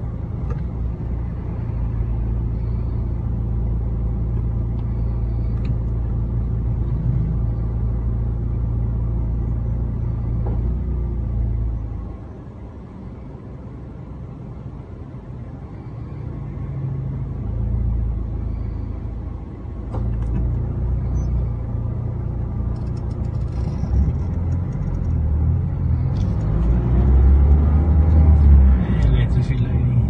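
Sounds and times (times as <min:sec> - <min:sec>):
car engine rumble inside cabin: 0:00.0 - 0:30.0.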